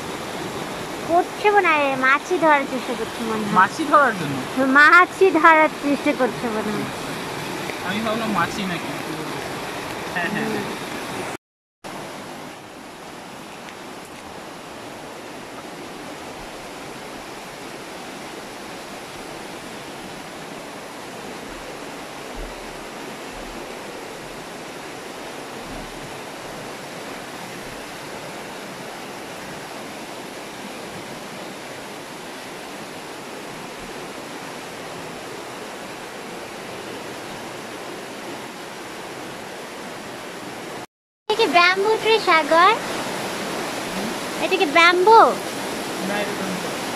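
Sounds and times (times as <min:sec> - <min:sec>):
fast river rushing: 0:00.0 - 0:46.9.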